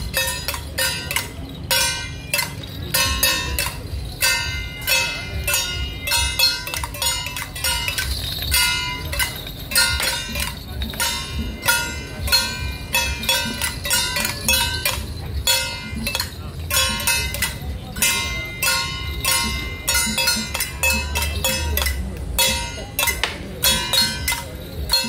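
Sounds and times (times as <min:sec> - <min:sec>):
metal gongs and cymbals ringing: 0:00.0 - 0:25.0.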